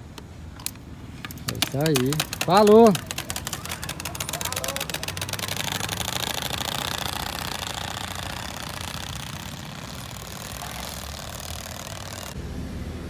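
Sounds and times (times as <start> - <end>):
motorcycle engine sound effect: 2.0 - 12.4.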